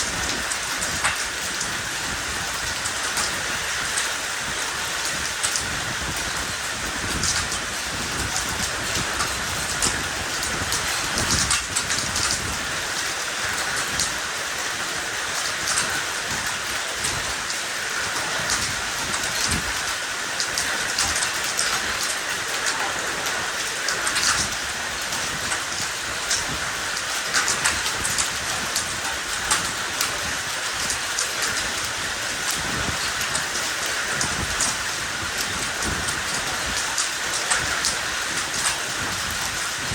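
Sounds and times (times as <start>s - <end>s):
hail impacts: 0.0s - 39.9s
heavy rain and hail: 0.0s - 39.9s.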